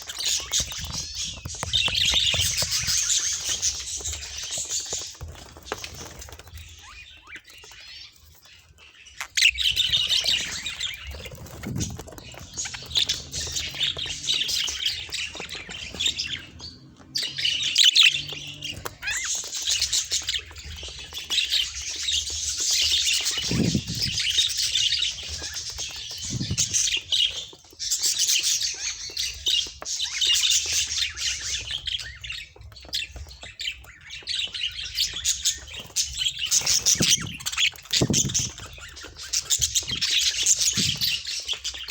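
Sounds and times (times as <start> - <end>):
budgerigars chattering and squawking: 0.0 - 41.9.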